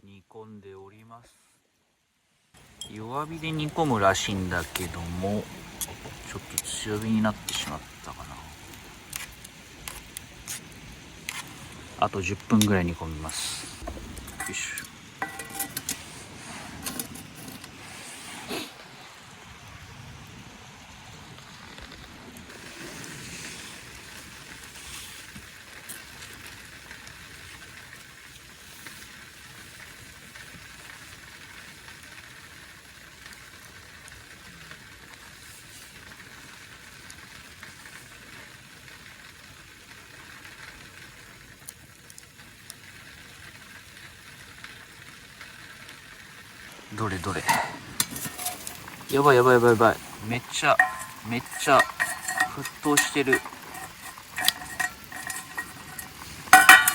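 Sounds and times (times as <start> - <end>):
pot boiling with steady hiss: 0.0 - 56.9.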